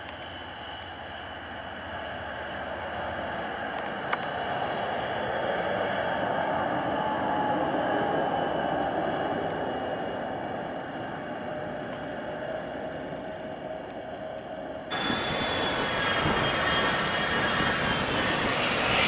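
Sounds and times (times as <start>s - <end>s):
jet engines high whine and rumble: 0.0s - 19.0s.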